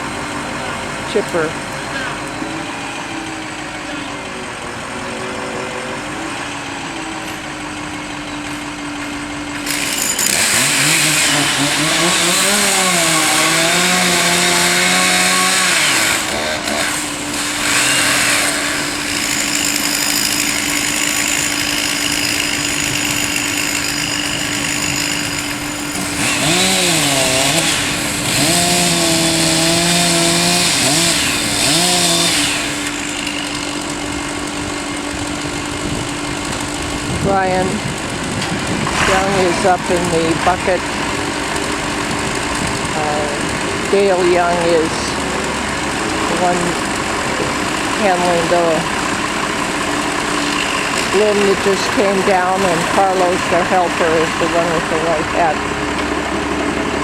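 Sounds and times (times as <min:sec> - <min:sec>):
engine hum: 0:00.0 - 0:57.0
loud rough cutting noise: 0:00.0 - 0:57.0
engine revving: 0:09.1 - 0:57.0.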